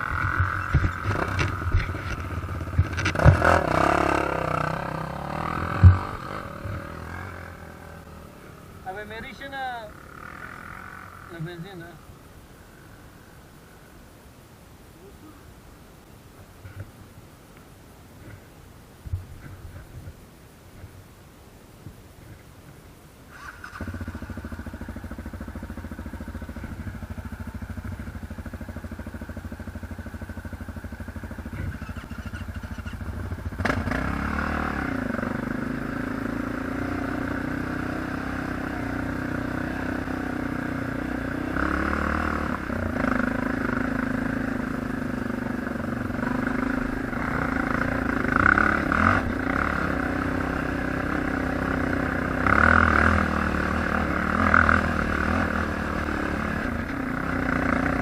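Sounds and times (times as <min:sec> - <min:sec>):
atv engine revving: 0:00.0 - 0:12.1, 0:23.3 - 0:58.0.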